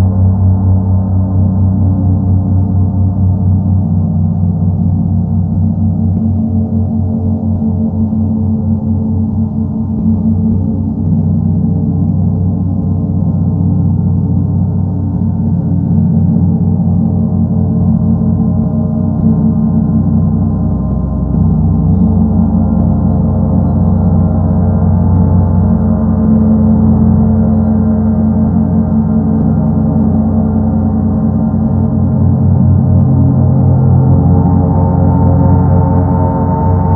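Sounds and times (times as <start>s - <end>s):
gong rumbling: 0.0s - 36.9s.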